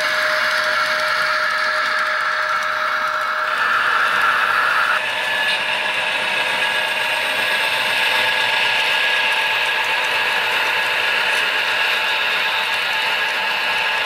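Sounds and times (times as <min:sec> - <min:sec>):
model train motors whirring: 0:00.0 - 0:14.0
wheels rattling on track: 0:00.0 - 0:14.0.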